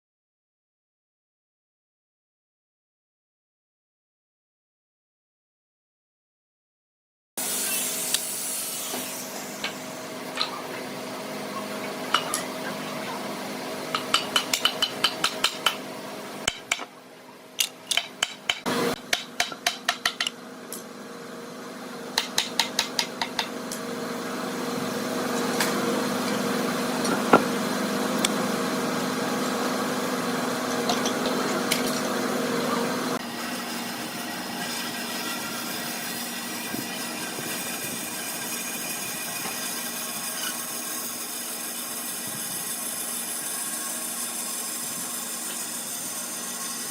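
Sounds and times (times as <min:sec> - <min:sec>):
steady machine hum: 0:07.4 - 0:46.9.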